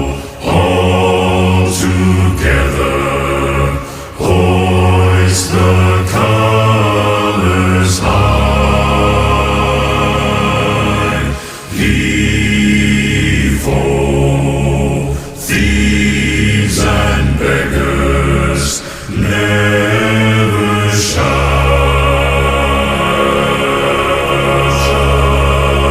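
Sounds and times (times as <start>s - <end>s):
choir singing a sea shanty: 0.0s - 25.9s.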